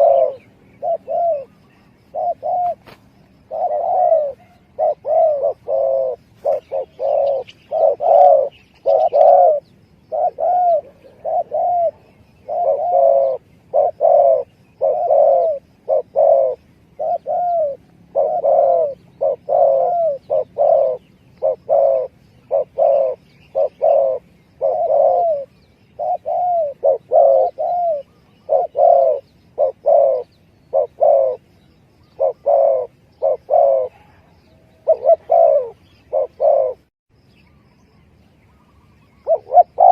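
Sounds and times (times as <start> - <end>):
dove cooing: 0.0 - 36.9, 38.5 - 39.9
faint bird chirps: 0.0 - 39.9.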